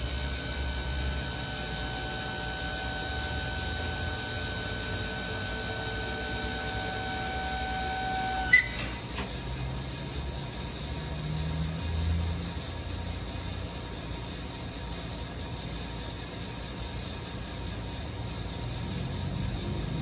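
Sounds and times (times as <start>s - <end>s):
hydraulic pump humming and whining: 0.0s - 20.0s.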